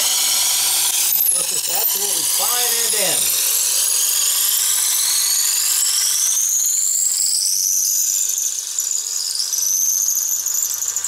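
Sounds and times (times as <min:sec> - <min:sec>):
wood lathe high-pitched whine: 0:00.0 - 0:11.0.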